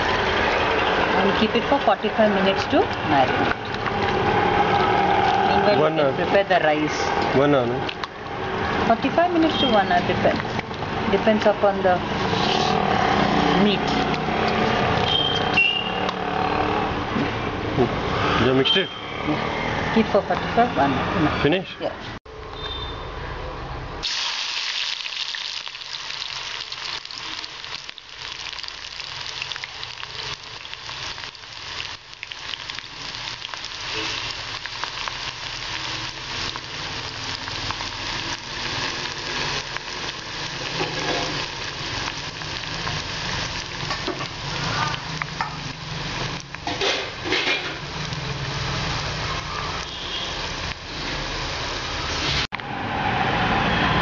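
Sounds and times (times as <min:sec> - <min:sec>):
onions sizzling in oil: 0:00.0 - 0:16.6, 0:24.0 - 0:52.5.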